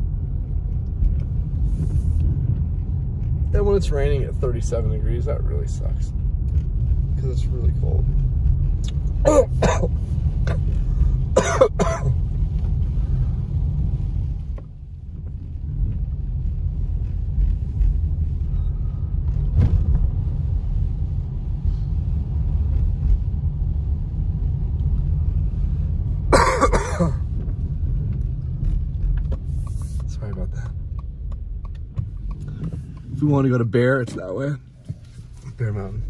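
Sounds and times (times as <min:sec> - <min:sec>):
car engine rumble: 0:00.0 - 0:36.0
tyres on wet pavement: 0:00.0 - 0:36.0.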